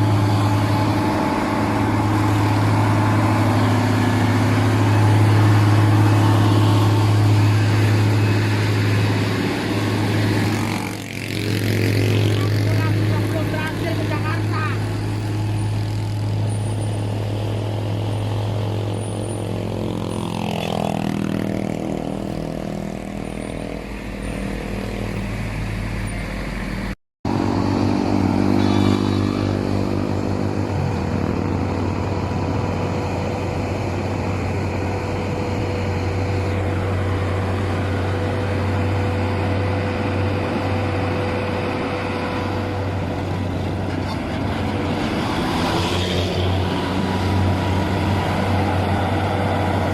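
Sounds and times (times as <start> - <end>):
truck diesel engines labouring: 0.0 - 49.9.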